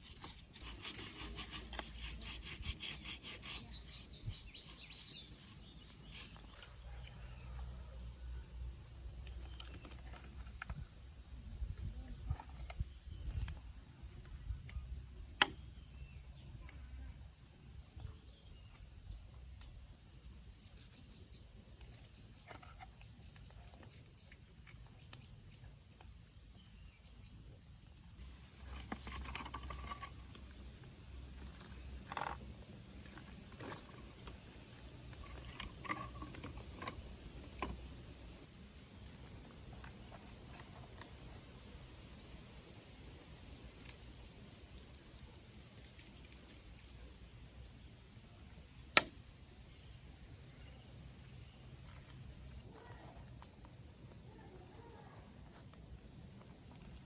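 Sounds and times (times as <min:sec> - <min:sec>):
crickets droning: 0:00.0 - 0:57.0.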